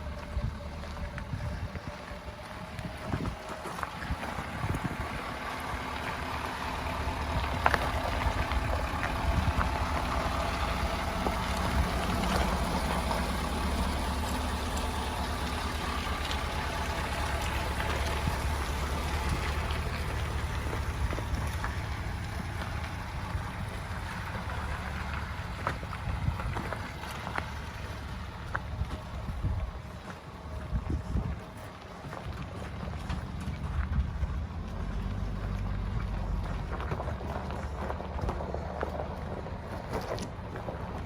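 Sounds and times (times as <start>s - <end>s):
pickup engine and tyre drone: 0.0s - 41.0s.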